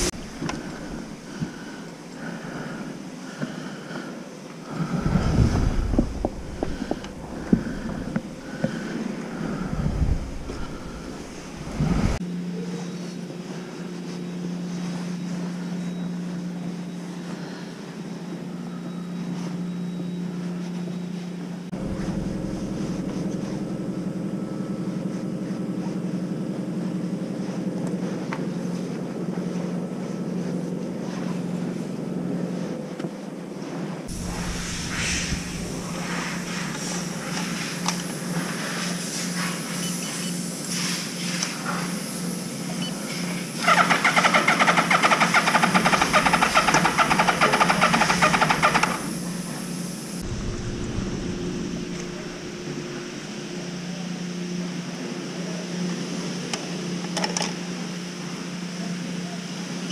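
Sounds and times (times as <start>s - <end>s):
low hum: 0.0s - 32.8s, 33.6s - 40.1s, 45.5s - 56.3s.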